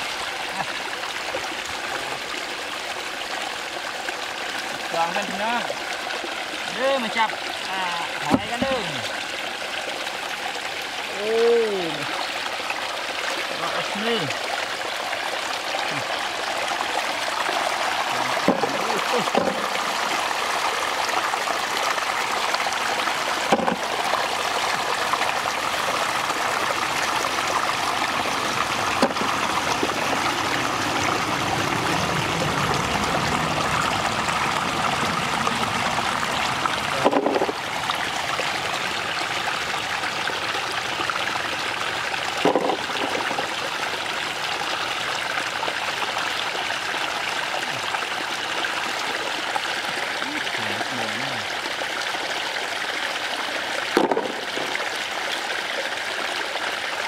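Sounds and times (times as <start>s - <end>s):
shallow water trickling: 0.0s - 57.0s.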